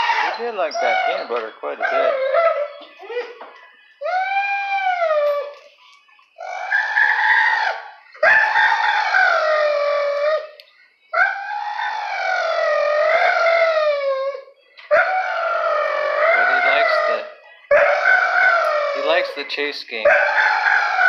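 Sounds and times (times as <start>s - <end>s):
dog howling: 0.0s - 5.7s, 6.4s - 21.0s.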